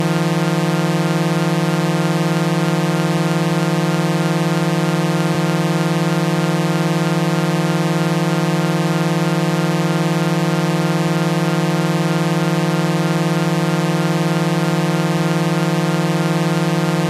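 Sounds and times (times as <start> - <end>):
low electronic buzzing tone: 0.0 - 17.0.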